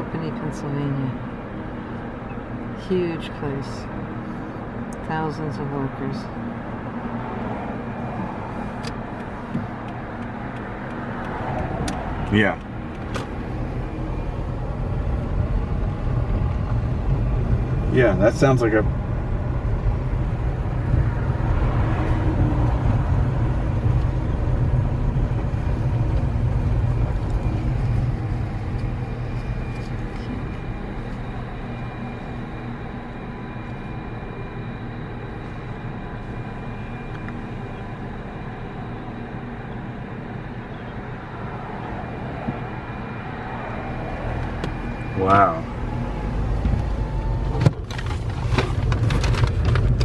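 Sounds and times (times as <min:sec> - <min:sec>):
car rumbling: 0:00.0 - 0:50.0
faint whining tones: 0:00.0 - 0:50.0.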